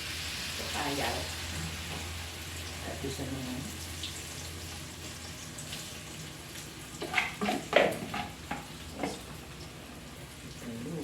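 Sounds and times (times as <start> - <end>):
fritters sizzling in hot oil: 0.0 - 10.7.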